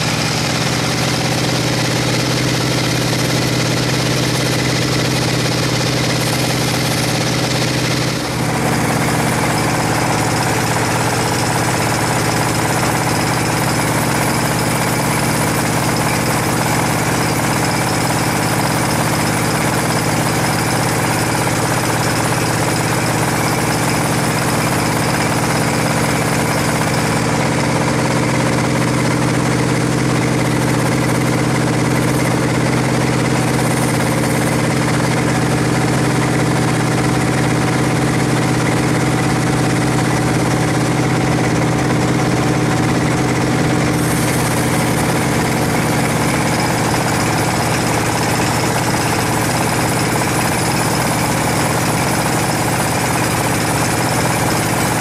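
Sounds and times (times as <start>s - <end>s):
low motor hum: 0.0s - 55.0s
sawmill blade cutting log: 0.0s - 55.0s.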